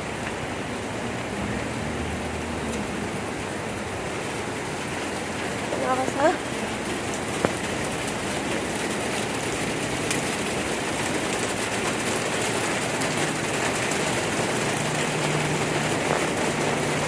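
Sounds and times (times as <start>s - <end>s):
heavy wind-driven rain: 0.0s - 17.0s.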